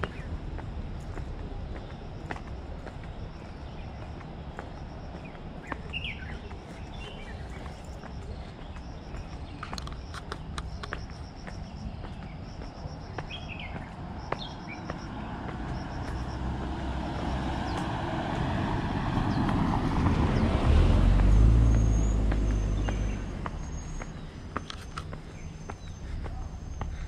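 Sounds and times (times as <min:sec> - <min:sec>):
footsteps clicking on path: 0:00.0 - 0:27.0
road vehicle passing with rumble: 0:00.0 - 0:27.0.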